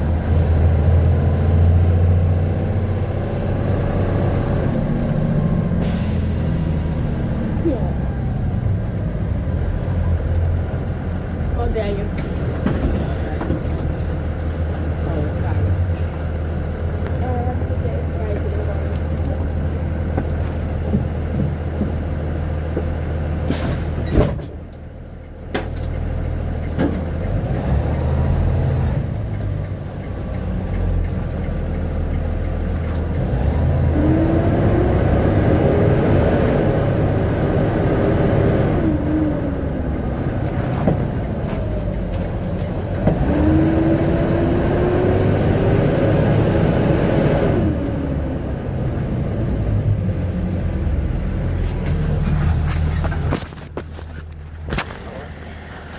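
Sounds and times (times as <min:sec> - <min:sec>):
vehicle engine idling and revving: 0:00.0 - 0:55.9.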